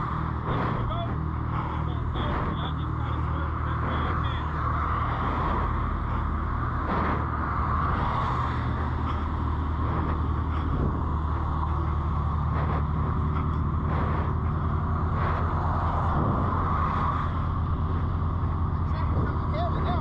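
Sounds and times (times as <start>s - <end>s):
car engine running steadily: 0.0s - 20.0s
road and wind noise: 0.0s - 20.0s.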